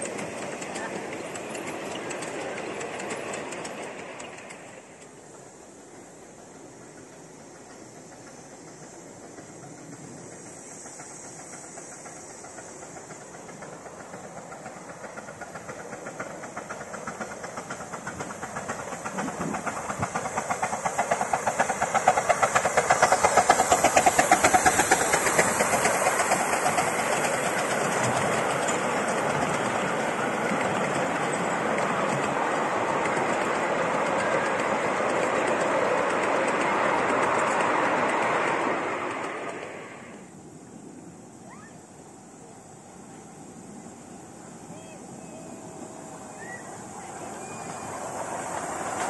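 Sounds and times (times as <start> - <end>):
carriages rolling with clickety-clack: 0.0 - 5.5, 6.1 - 39.9, 44.6 - 49.0
miniature steam locomotive chuffing: 0.0 - 49.0
steam hiss: 0.0 - 49.0.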